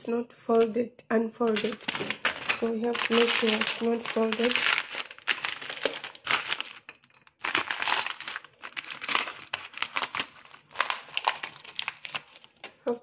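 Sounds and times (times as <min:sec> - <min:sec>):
paper bag crinkling: 0:01.4 - 0:12.8.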